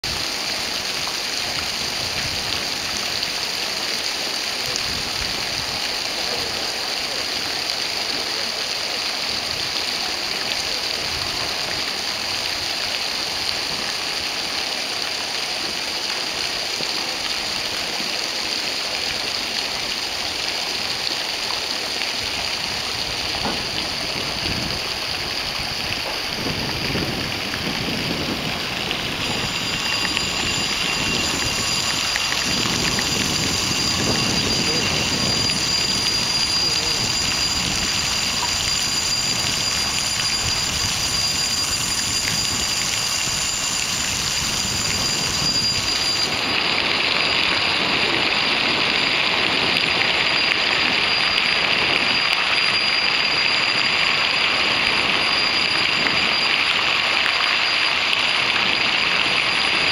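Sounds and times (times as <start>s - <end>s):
water gushing through gates: 0.0s - 59.9s.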